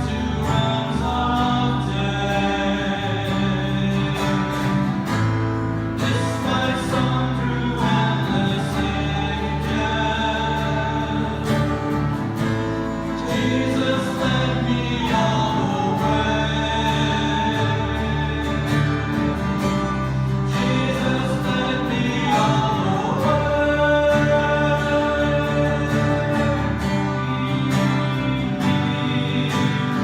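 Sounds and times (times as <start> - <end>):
acoustic guitar: 0.0 - 30.0
congregation singing a hymn: 0.0 - 30.0.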